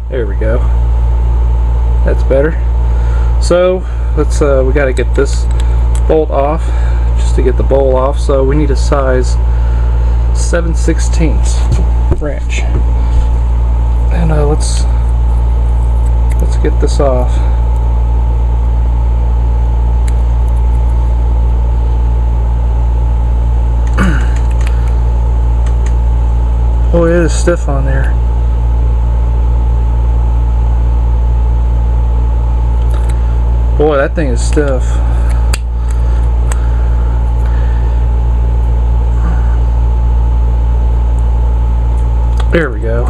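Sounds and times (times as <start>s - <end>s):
air conditioner humming: 0.0s - 43.0s.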